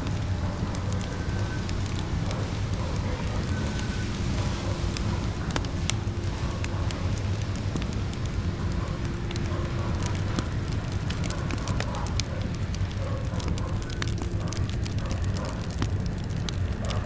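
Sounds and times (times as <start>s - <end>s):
fire crackling and popping: 0.0s - 17.0s
low rumble of burning: 0.0s - 17.0s.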